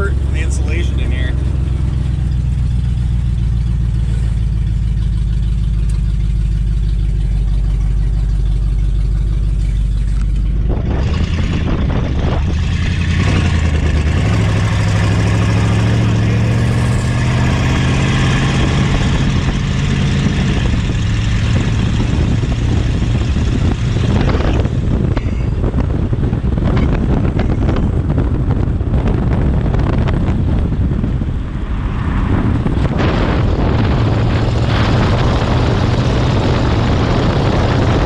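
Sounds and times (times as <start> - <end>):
car engine running: 0.0 - 38.0
wind noise on microphone: 6.4 - 38.0.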